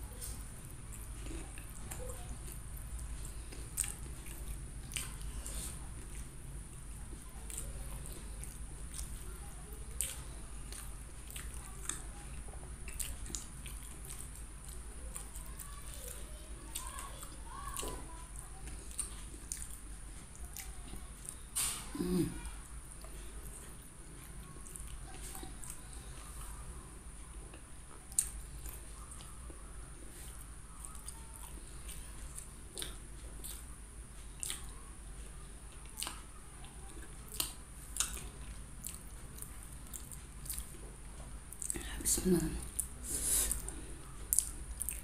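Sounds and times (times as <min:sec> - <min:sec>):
person chewing food: 0:00.0 - 0:34.8, 0:35.6 - 0:45.0.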